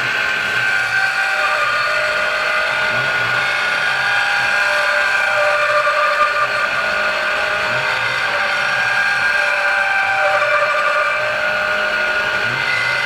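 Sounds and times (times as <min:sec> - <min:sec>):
milling machine whine: 0:00.0 - 0:13.0.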